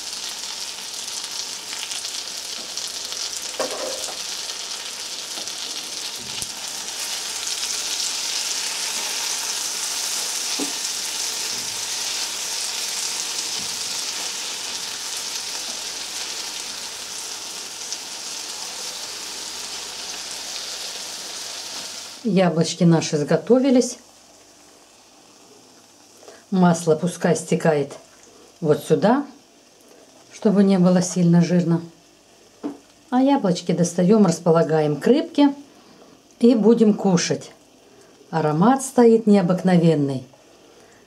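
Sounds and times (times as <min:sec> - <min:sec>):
apples sizzling in butter: 0:00.0 - 0:33.1.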